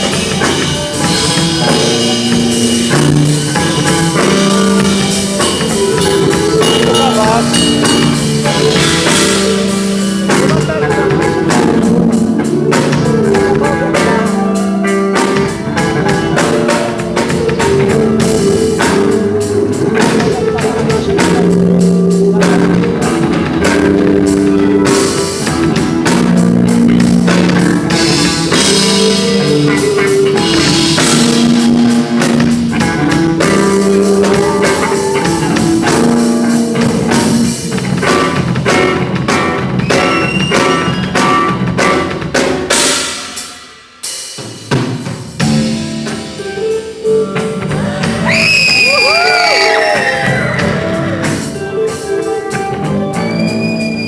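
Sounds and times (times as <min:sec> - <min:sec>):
bass line: 0:00.0 - 0:43.5, 0:44.7 - 0:54.0
drum kit beat: 0:00.0 - 0:54.0.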